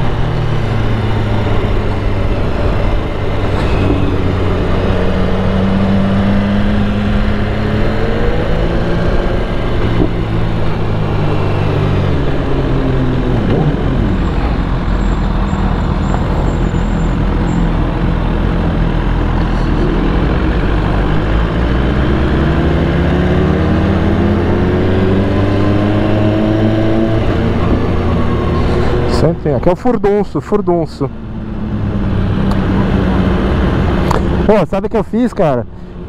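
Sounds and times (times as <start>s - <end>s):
motorcycle engine: 0.0s - 29.6s.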